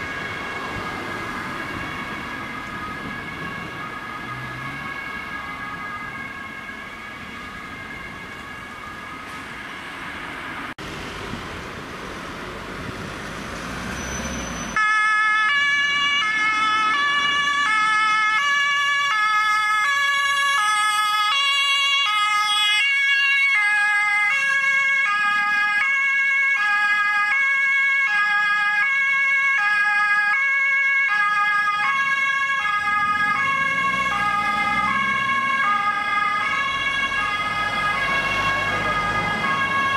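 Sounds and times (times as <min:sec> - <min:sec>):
two-tone ambulance siren: 0:00.0 - 0:10.8, 0:14.4 - 0:39.9
traffic noise: 0:00.0 - 0:39.9.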